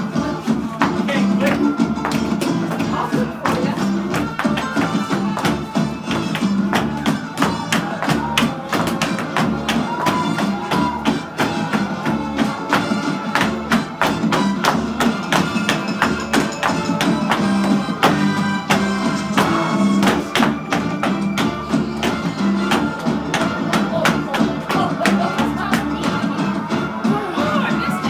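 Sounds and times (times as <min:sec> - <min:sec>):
upbeat dance music: 0:00.0 - 0:28.0.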